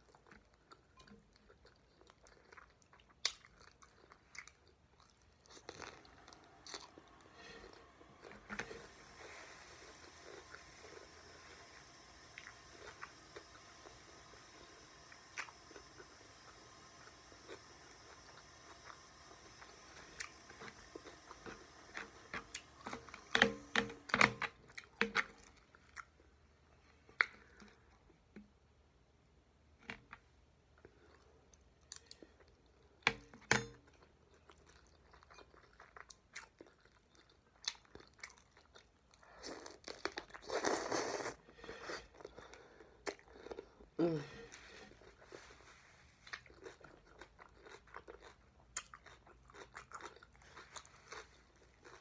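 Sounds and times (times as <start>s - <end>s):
person chewing food: 0.0s - 28.6s, 30.0s - 52.0s.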